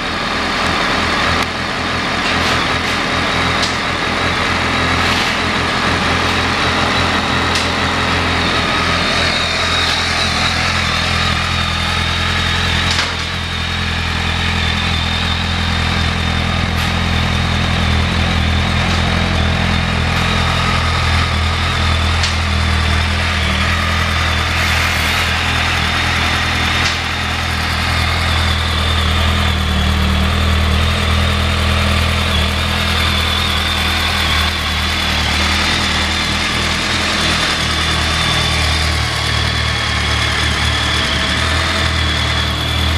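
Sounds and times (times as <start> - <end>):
motorcycle engine idling: 2.9 - 42.9.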